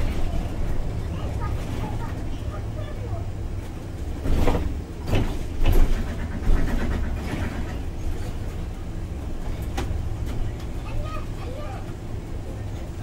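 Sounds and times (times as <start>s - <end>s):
bus body rattles and clunks: 0.0s - 13.0s
bus engine and road rumble: 0.0s - 13.0s.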